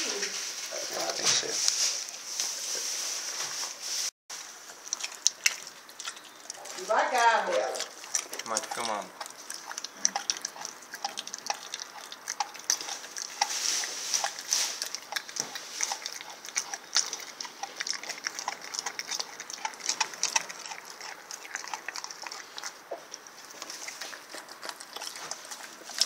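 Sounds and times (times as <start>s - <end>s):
dog chewing raw meat: 4.5s - 26.0s.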